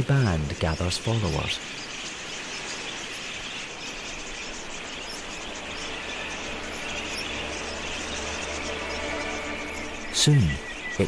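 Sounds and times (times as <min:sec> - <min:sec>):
flock of budgerigars chirping: 0:00.0 - 0:11.0.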